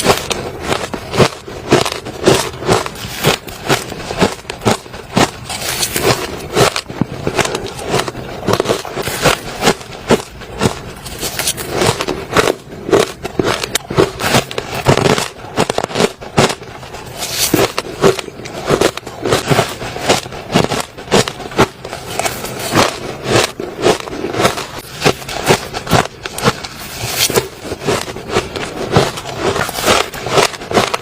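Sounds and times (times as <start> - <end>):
person chewing crunchy ice: 0.0 - 31.0.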